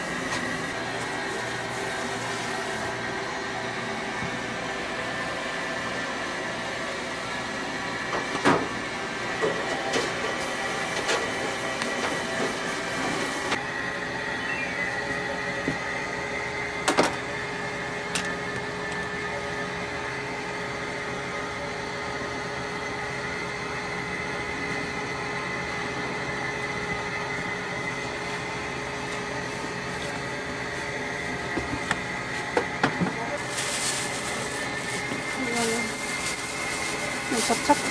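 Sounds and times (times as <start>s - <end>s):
kitchen equipment humming: 0.0s - 37.9s.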